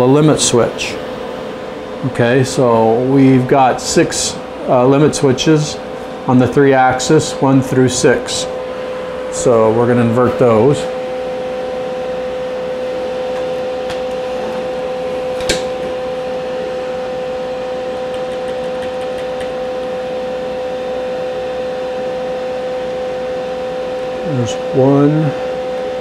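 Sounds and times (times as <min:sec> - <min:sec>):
machinery hum with two-note whine: 0:00.0 - 0:26.0.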